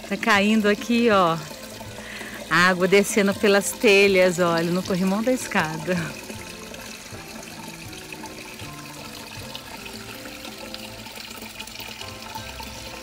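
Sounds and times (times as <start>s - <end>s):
background music: 0.0s - 13.0s
water pouring into clay pot: 0.0s - 13.0s.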